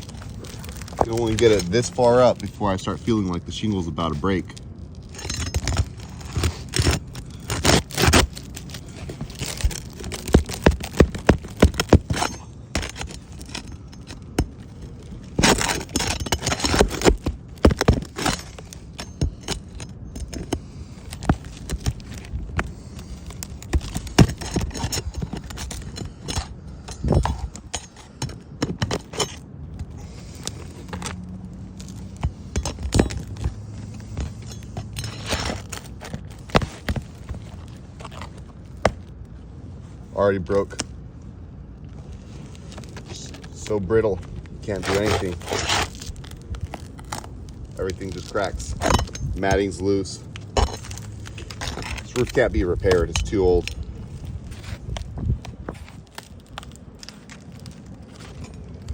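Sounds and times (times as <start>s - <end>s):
metal tool scraping under shingles: 0.0s - 39.1s, 41.9s - 58.9s
shingles cracking: 0.0s - 39.4s, 41.8s - 58.9s.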